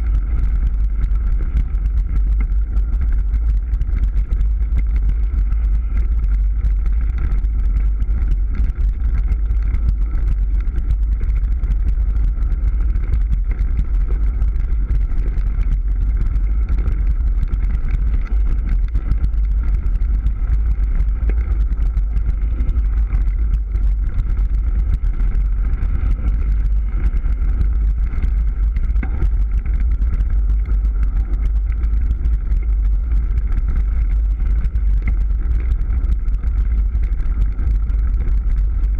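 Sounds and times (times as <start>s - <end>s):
bike tyres on dirt: 0.0s - 38.9s
wind rumble on microphone: 0.0s - 38.9s.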